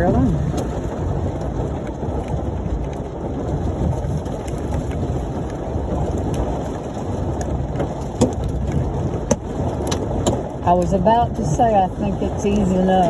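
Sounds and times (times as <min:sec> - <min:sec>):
hail and rain on car roof: 0:00.0 - 0:13.0.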